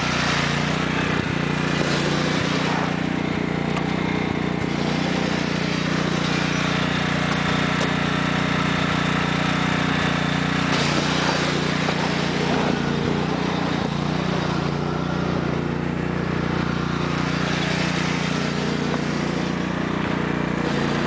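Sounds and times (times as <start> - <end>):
lawn tractor engine running: 0.0 - 21.0
tire spinning on ice: 0.0 - 21.0.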